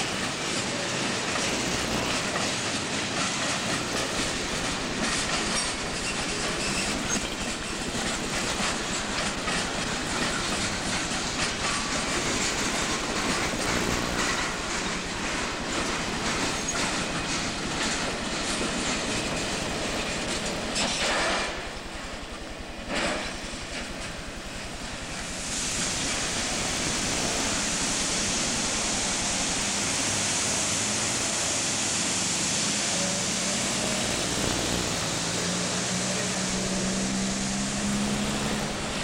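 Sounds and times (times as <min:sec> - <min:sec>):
train wheels clicking over rail joints: 0:00.0 - 0:39.0.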